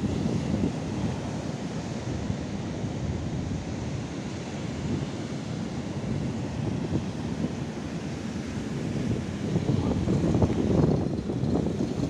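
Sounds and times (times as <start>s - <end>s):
sea surf on shore: 0.0s - 12.0s
wind buffeting microphone: 0.0s - 12.0s.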